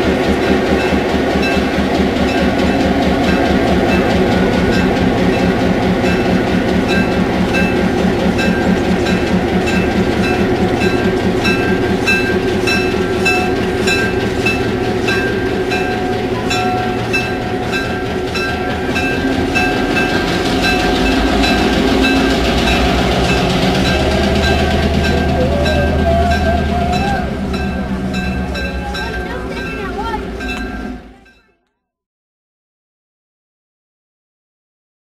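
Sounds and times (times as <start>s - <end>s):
diesel locomotive engine throbbing: 0.0s - 31.5s
locomotive bell ringing: 0.0s - 31.6s.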